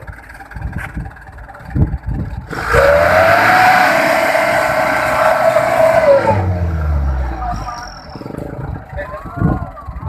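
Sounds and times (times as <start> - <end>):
engine rumble: 0.0 - 10.0
differential whining: 1.4 - 9.6.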